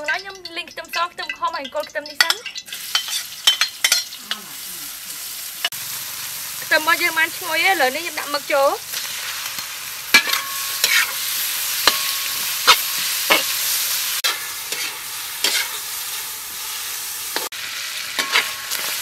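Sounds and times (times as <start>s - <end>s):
food sizzling in hot oil: 0.0s - 19.0s
metal spatula scraping a wok: 1.8s - 6.7s, 8.1s - 19.0s.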